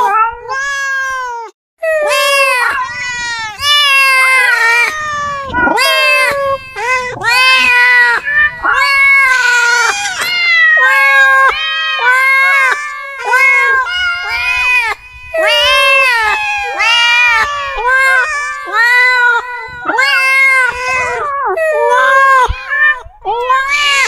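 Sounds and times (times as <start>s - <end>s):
cats meowing: 0.0s - 24.0s.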